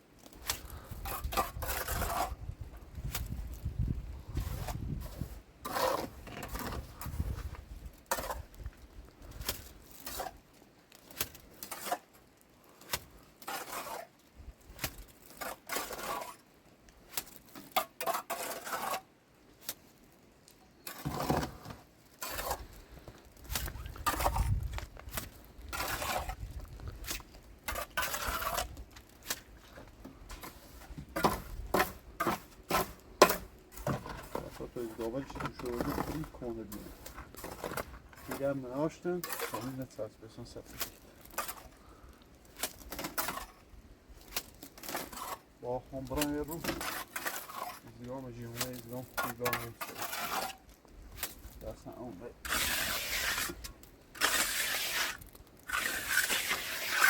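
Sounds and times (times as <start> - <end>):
clinks and scrapes of small objects: 0.1 - 57.0.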